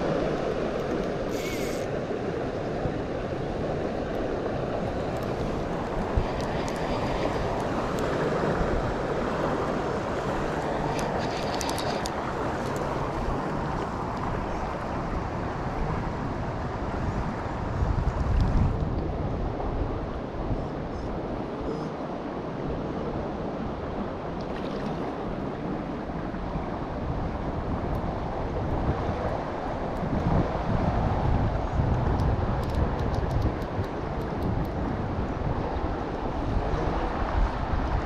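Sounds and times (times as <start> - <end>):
river water flowing: 0.0 - 17.9, 21.2 - 38.0
wind buffeting microphone: 0.0 - 38.0.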